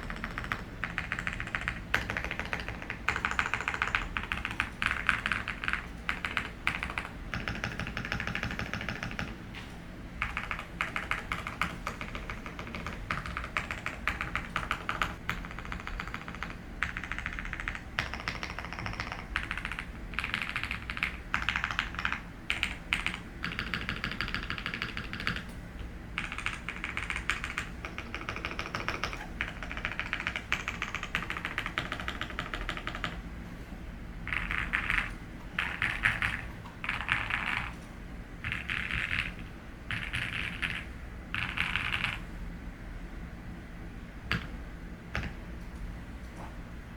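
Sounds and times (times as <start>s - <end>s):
mechanical keyboard typing: 0.0s - 9.4s, 10.2s - 25.6s, 26.2s - 33.2s, 34.3s - 37.8s, 38.4s - 42.2s, 44.3s - 44.5s, 45.1s - 45.4s
air conditioner hum: 0.0s - 46.9s.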